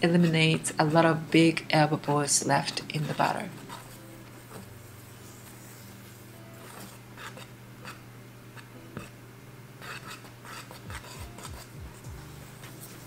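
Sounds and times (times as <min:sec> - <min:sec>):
toothpick scratching a metal pan: 0:00.0 - 0:01.2, 0:01.8 - 0:08.0, 0:09.8 - 0:13.0
steady low hum: 0:00.0 - 0:13.0.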